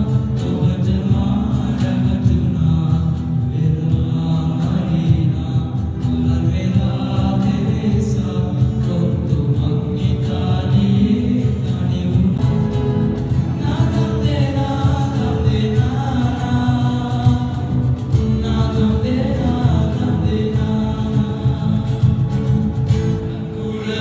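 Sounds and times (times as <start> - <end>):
group of singers: 0.0 - 24.0
live band playing over loudspeakers: 0.0 - 24.0.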